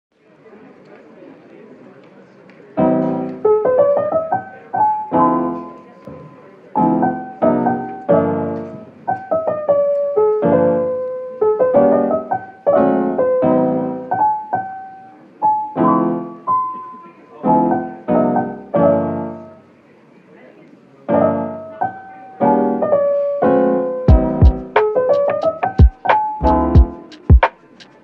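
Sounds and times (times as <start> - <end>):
solo piano music: 2.8 - 19.7, 21.1 - 27.7.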